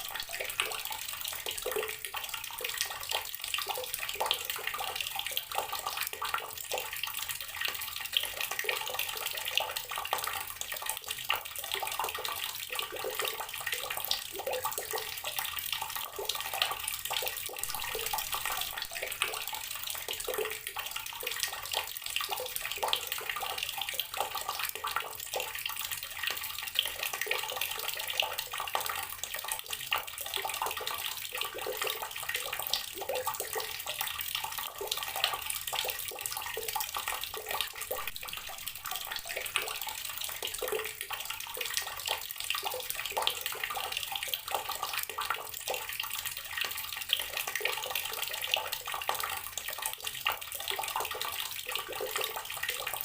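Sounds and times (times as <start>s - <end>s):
water running from outdoor tap: 0.0s - 53.0s.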